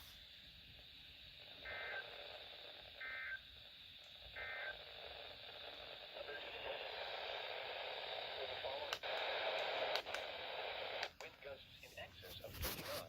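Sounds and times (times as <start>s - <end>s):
radio static: 1.2s - 13.0s.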